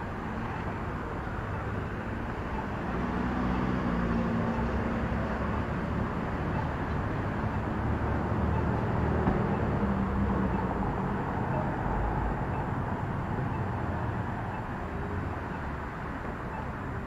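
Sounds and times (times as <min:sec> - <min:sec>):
passing vehicle engine hum: 0:00.0 - 0:17.0
street traffic rumble: 0:00.0 - 0:17.0.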